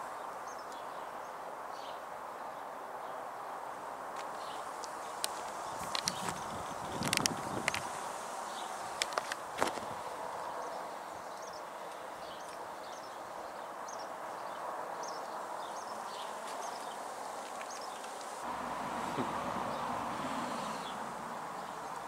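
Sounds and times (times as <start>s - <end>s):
small birds chirping: 0.0s - 3.2s, 4.2s - 22.0s.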